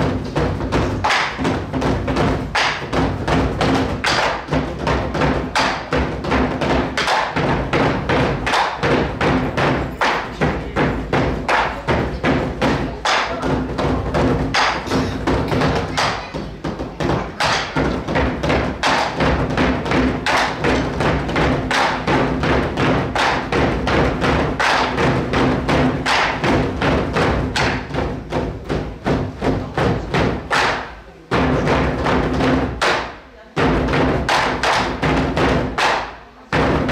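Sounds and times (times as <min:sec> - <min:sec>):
drums struck with sticks: 0:00.0 - 0:36.9.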